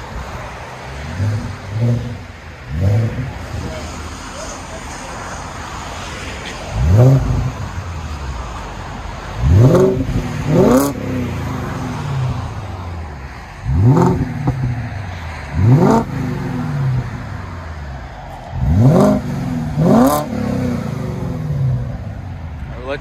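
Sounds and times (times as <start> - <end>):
car engine idling: 0.0 - 23.0
engine revving: 0.0 - 23.0.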